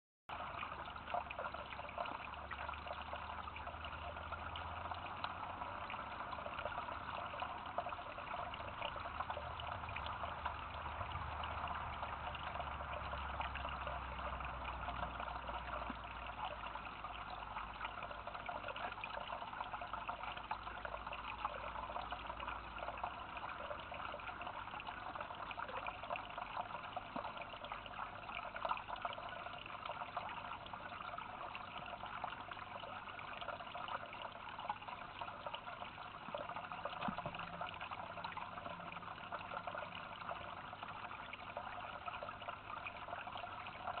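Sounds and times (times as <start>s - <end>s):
faint low hum: 0.3s - 44.0s
water trickling and splashing: 0.3s - 44.0s.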